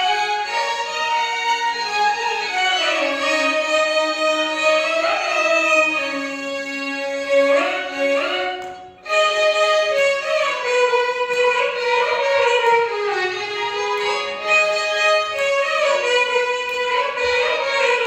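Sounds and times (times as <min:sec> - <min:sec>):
violins playing a melody: 0:00.0 - 0:18.0.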